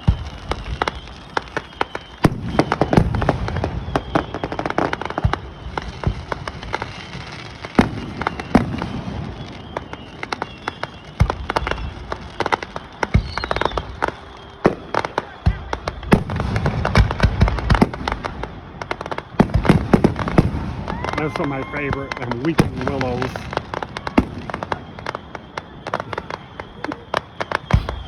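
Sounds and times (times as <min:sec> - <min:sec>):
firework booms: 0:00.0 - 0:28.0
fireworks crackling: 0:00.0 - 0:28.0.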